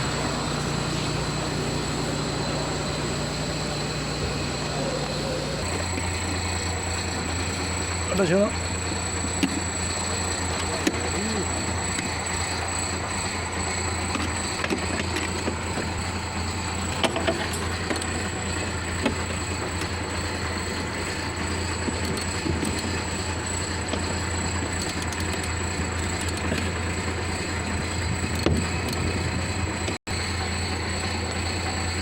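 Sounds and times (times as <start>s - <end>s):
pickup engine idling: 0.0s - 32.0s.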